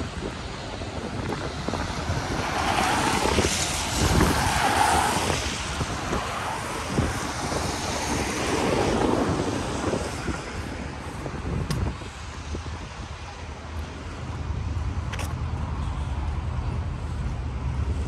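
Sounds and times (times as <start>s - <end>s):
passing traffic: 0.0s - 18.0s
wind gusting on microphone: 0.0s - 18.0s.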